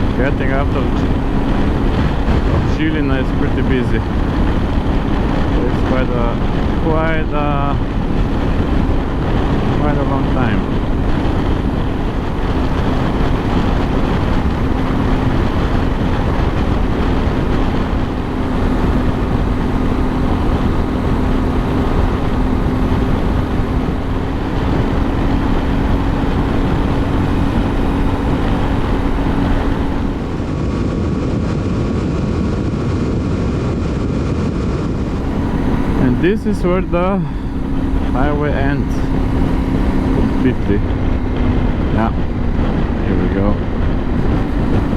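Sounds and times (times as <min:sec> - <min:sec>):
motorcycle engine cruising: 0:00.0 - 0:44.9
wind rush on microphone: 0:00.0 - 0:44.9.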